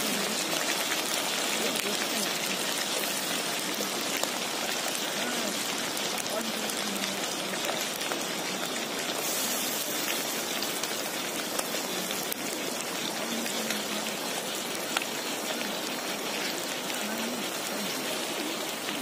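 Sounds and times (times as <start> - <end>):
food sizzling in a pan: 0.0 - 19.0
small crackles: 0.0 - 19.0.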